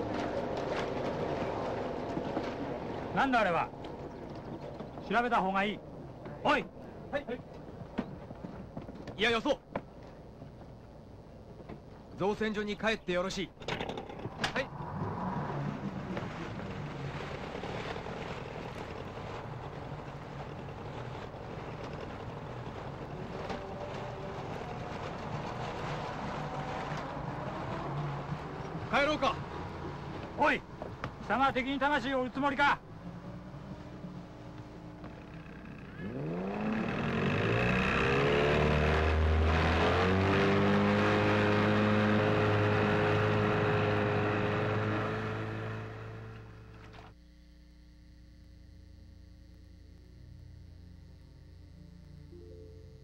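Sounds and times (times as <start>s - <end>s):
low engine drone: 0.0s - 8.6s, 13.4s - 53.0s.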